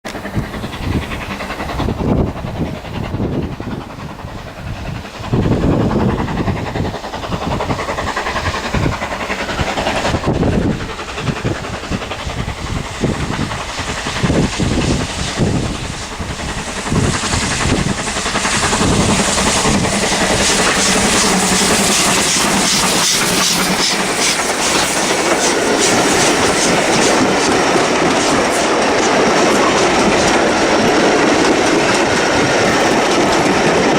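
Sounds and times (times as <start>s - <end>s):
train wheels clattering over rail joints: 0.1s - 33.9s.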